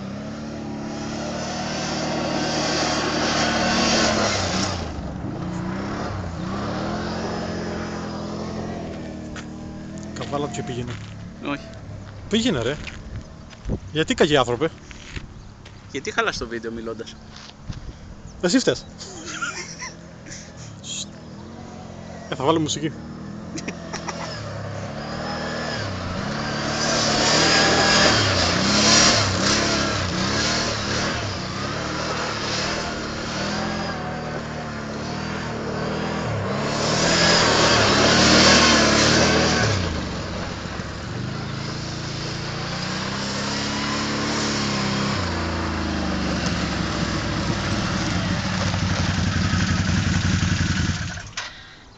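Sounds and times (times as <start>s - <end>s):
quad engine revving: 0.0s - 11.8s, 19.0s - 51.7s
tyres sliding on loose dirt: 0.0s - 16.2s, 21.8s - 51.8s.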